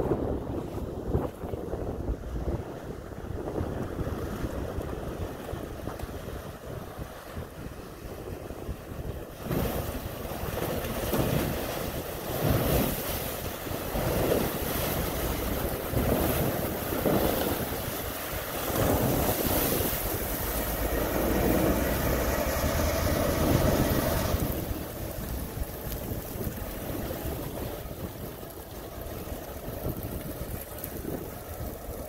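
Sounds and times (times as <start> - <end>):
wind noise on microphone: 0.0 - 32.0
boat engine under load: 0.1 - 32.0.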